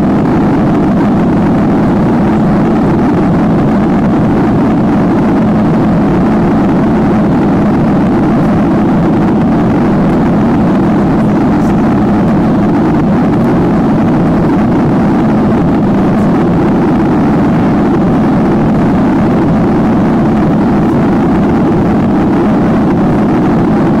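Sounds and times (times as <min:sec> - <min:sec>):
airflow over fuselage: 0:00.0 - 0:24.0
jet engines in airplane cabin: 0:00.0 - 0:24.0.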